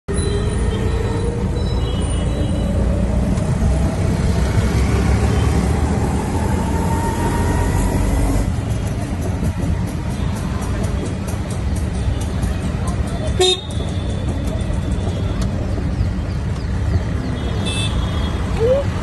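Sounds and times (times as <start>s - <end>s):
road and traffic noise: 0.0s - 19.0s.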